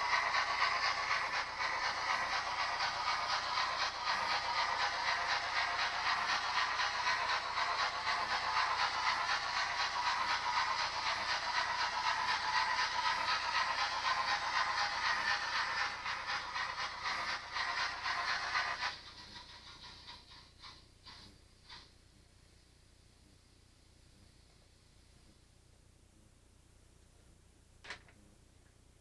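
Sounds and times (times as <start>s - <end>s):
model train steam chuffing from small speaker: 0.0s - 29.0s.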